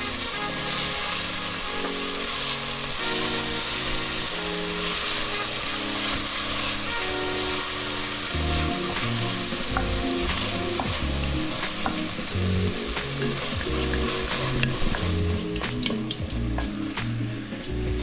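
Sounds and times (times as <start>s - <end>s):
food sizzling in oil: 0.0s - 18.0s
background music with bass: 2.7s - 18.0s.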